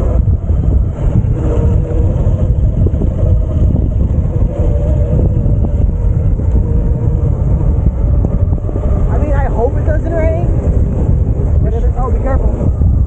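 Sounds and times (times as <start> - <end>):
faint e-bike whine: 0.0 - 13.0
wind buffeting microphone: 0.0 - 13.0.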